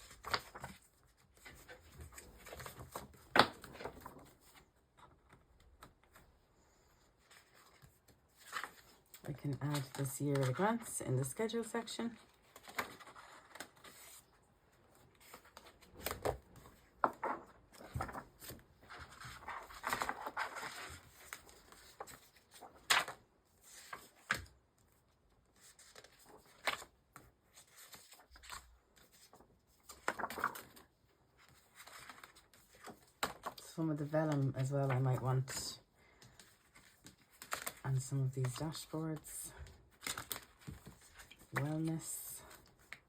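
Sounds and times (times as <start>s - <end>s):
paper rustling: 0.0s - 6.3s, 7.0s - 43.0s.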